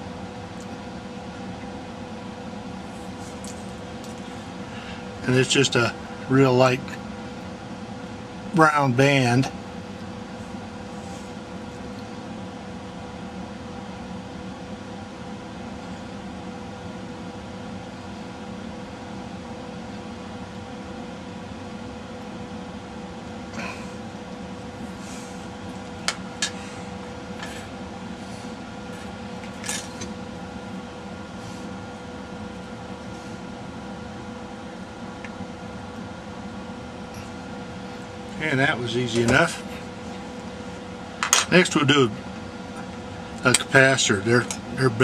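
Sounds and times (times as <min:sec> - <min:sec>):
steady mechanical hum: 0:00.0 - 0:45.0.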